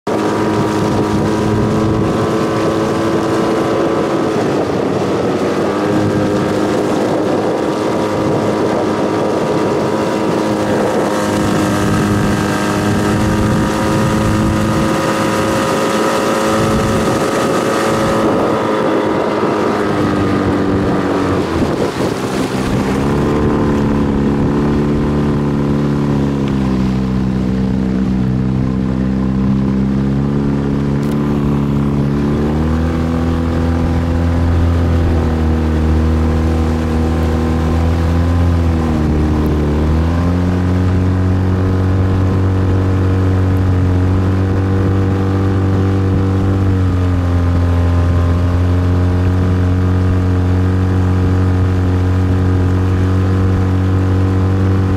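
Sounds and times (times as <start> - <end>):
motorboat engine running: 0.0 - 54.9
wind noise on microphone: 0.1 - 54.9.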